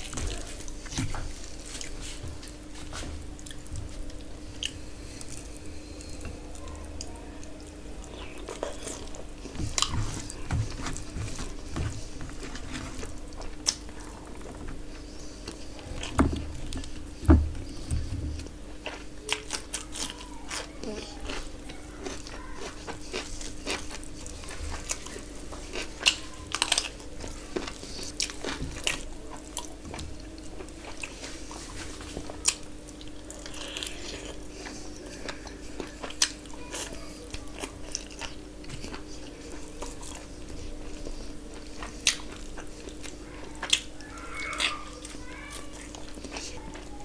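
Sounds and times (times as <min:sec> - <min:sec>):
faint steady hum: 0:00.0 - 0:47.0
person chewing: 0:00.0 - 0:47.0.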